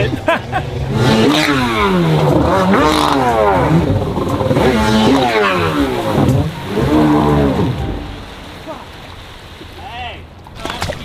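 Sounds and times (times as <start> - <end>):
jet ski engine revving: 0.0 - 9.2.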